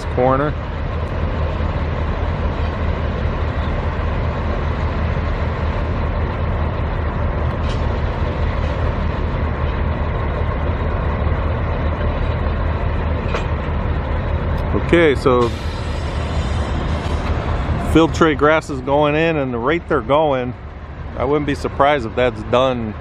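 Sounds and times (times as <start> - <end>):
low rumble of street traffic: 0.0 - 23.0.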